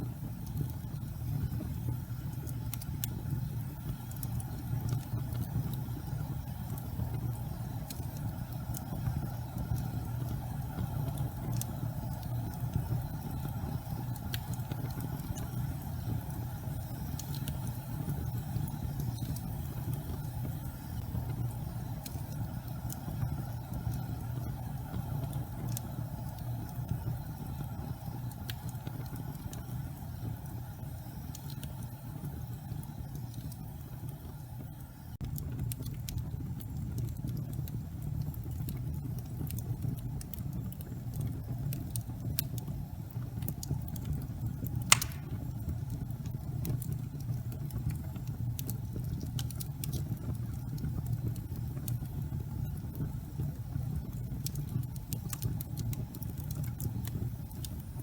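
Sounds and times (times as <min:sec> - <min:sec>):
fire crackles and pops: 0:00.0 - 0:58.0
gas fireplace flames rumbling: 0:00.0 - 0:58.0.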